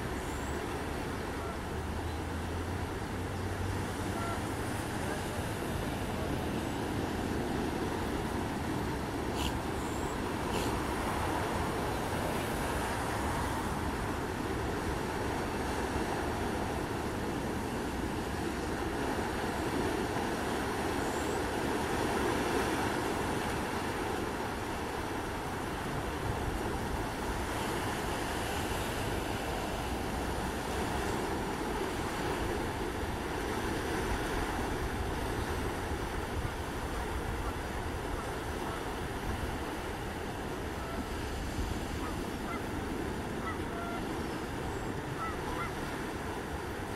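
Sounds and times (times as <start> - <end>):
ocean surf washing: 0.0 - 46.9.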